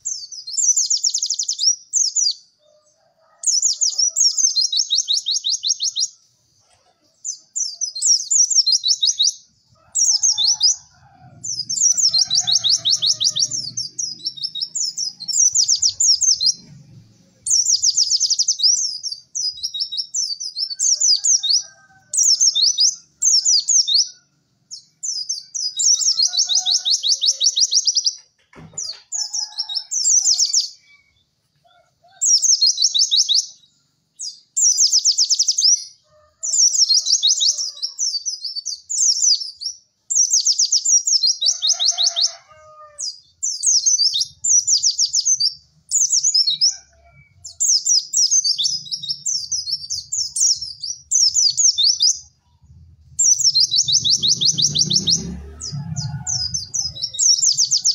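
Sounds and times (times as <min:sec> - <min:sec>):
bird chattering song: 0:00.0 - 0:02.5, 0:03.4 - 0:31.3, 0:32.2 - 0:42.4, 0:43.0 - 0:57.9.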